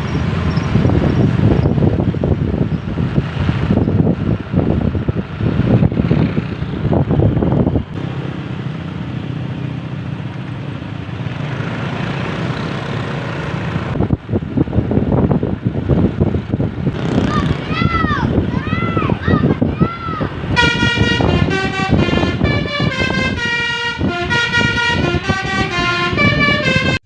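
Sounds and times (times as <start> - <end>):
wind buffeting microphone: 0.0 - 11.0, 12.1 - 27.0
road vehicle running: 0.0 - 27.0.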